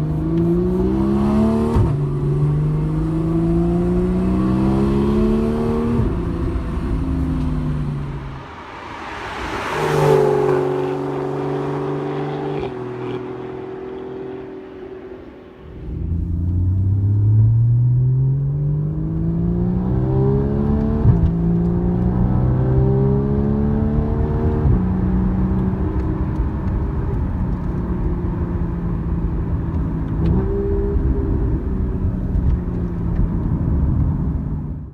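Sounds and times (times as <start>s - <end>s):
sports car engine accelerating: 0.0s - 8.4s, 9.2s - 34.8s.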